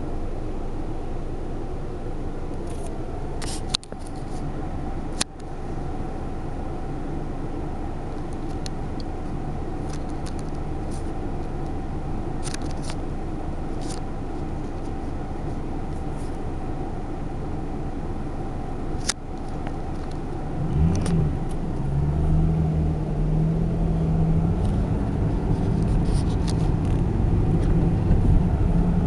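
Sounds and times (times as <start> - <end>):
car engine rumble inside cabin: 0.0 - 29.0.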